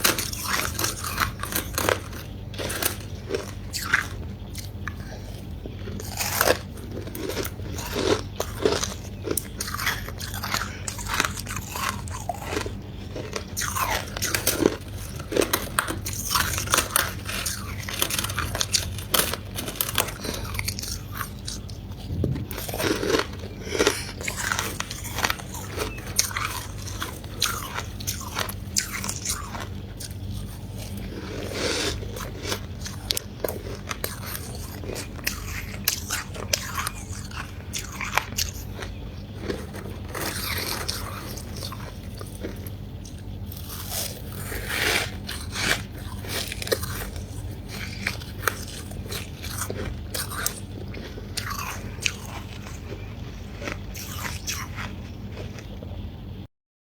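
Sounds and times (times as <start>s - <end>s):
chewing ice crunches: 0.0s - 56.1s.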